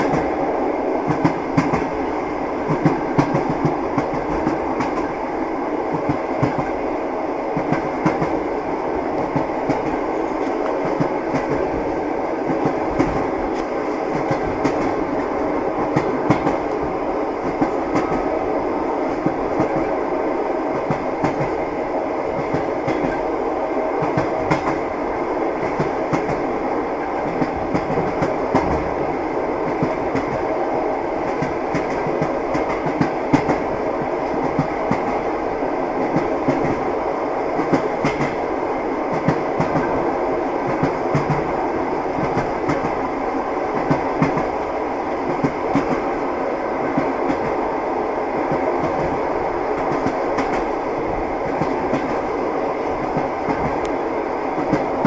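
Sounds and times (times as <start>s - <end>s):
train car rumbling: 0.0s - 55.0s.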